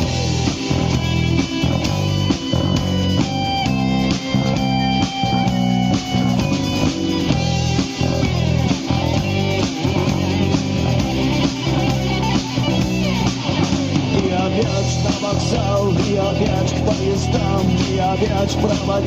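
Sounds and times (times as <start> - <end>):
bass: 0.0 - 19.0
guitar melody: 0.0 - 19.0
steady drum beat: 0.0 - 19.0.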